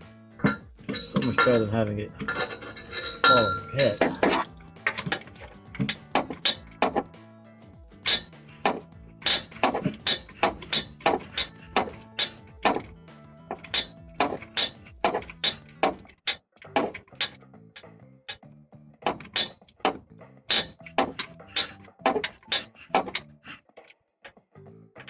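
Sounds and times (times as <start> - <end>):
background music: 0.0 - 25.0
metal hand tools clinking: 0.4 - 7.1, 8.0 - 12.9, 13.5 - 17.4, 19.1 - 23.9.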